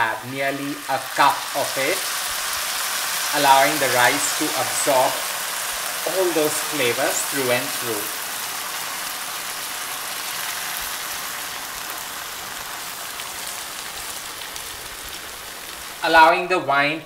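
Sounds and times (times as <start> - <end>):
food sizzling in a pan: 0.0 - 16.7.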